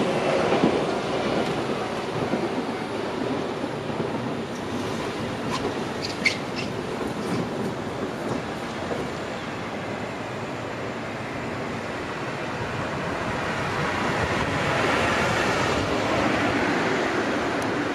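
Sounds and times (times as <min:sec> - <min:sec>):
road traffic noise: 0:00.0 - 0:17.9.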